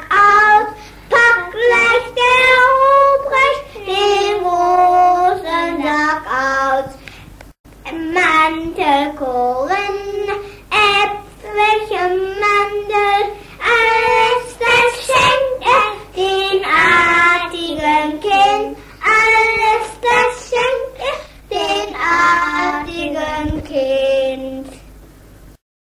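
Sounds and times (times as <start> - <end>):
child singing: 0.0 - 7.0, 7.9 - 24.9
steady low hum: 0.0 - 25.6.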